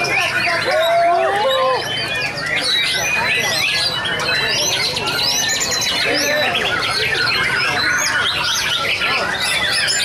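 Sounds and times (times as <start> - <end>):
chorus of birds singing: 0.0 - 10.0.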